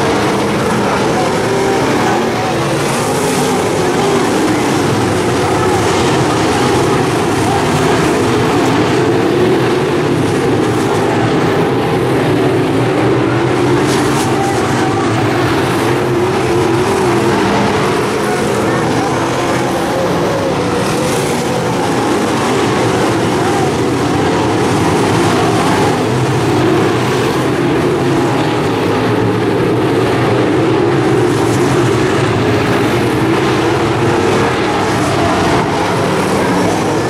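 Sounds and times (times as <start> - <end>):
race car engines roaring: 0.0 - 37.0.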